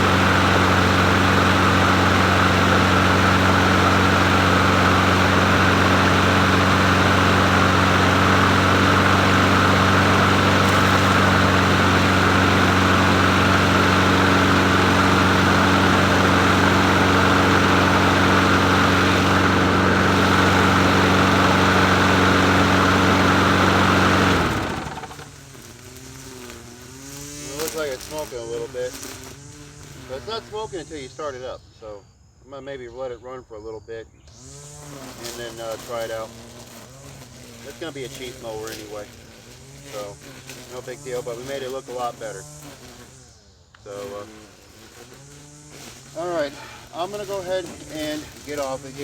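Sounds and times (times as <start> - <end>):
lawn mower engine idling: 0.0 - 31.4, 34.3 - 49.0.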